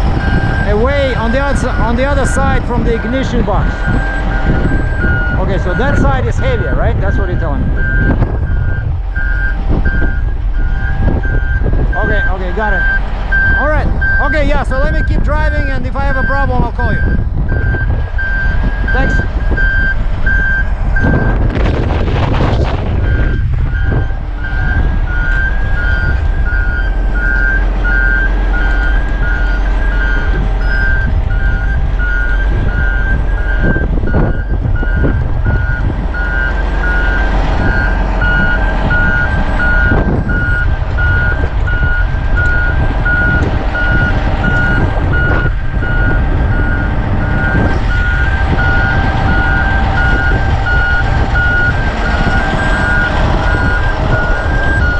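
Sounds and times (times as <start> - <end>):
diesel engine running: 0.0 - 54.9
backup alarm beeping: 0.2 - 21.4, 23.0 - 54.9.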